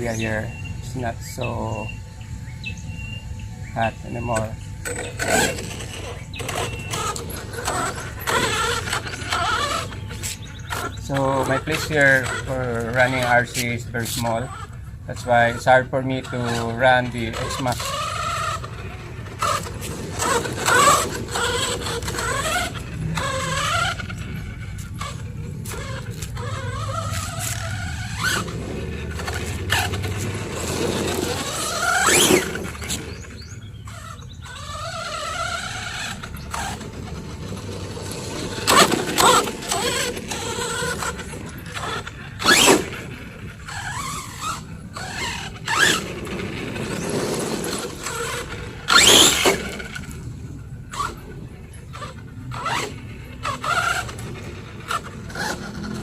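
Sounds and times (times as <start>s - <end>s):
rc truck motor whining: 0.0s - 56.0s.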